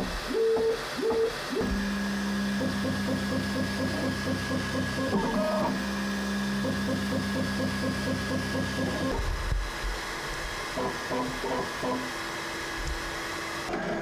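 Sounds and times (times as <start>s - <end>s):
stepper motors humming and stepping: 0.0s - 14.0s.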